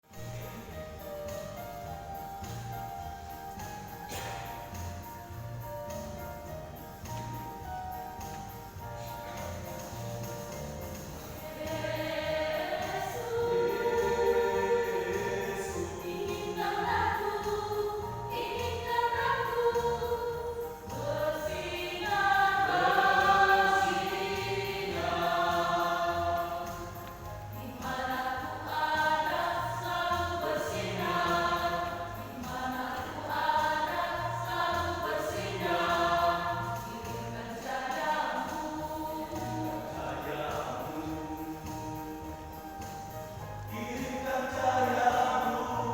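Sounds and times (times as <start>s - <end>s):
gospel backing music with bass beat: 0.0s - 45.9s
voices singing in harmony: 0.2s - 45.9s.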